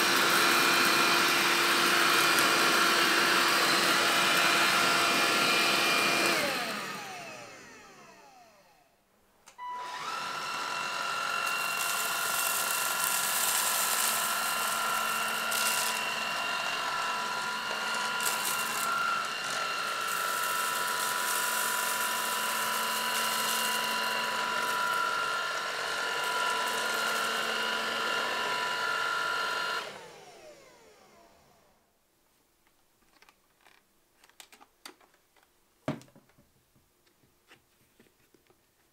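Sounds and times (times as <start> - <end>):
vacuum cleaner motor whining: 0.0 - 8.9, 9.5 - 31.8.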